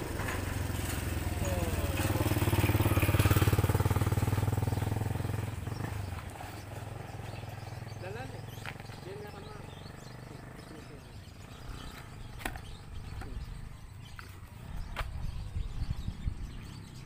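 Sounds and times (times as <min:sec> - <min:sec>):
motorcycle passing by: 0:00.0 - 0:17.0.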